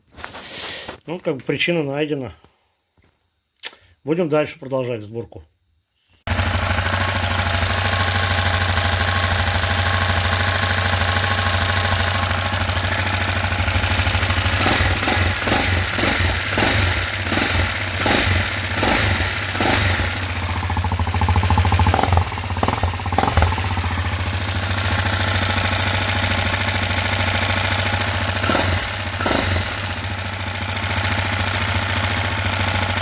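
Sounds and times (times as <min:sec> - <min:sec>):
motorcycle engine knocking: 0:06.3 - 0:33.0.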